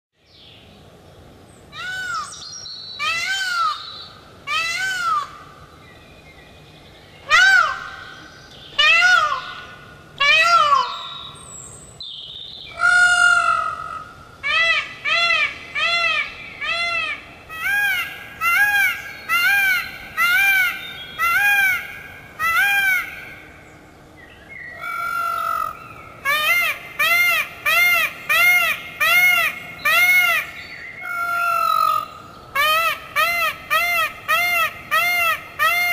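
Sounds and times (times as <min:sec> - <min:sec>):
peacock calling: 0:01.7 - 0:05.7, 0:07.2 - 0:11.7, 0:12.7 - 0:23.6, 0:24.7 - 0:35.9.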